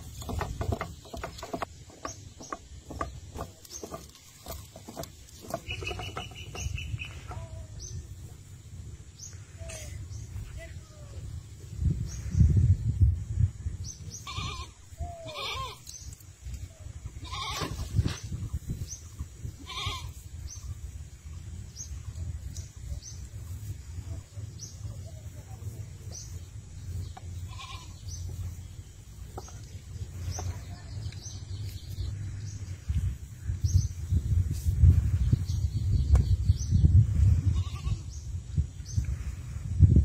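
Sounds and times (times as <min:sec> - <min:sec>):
steady low rumble: 0:06.4 - 0:40.0.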